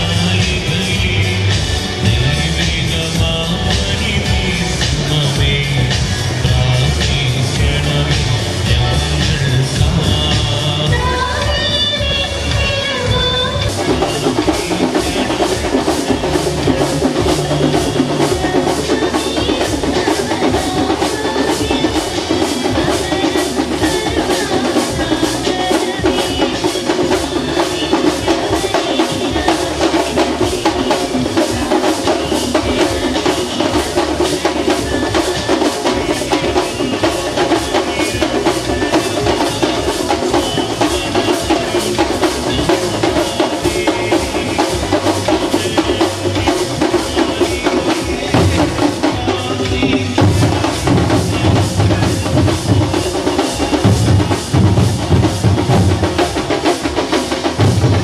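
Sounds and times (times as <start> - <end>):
drums beating rapid rhythm: 0.0 - 58.0.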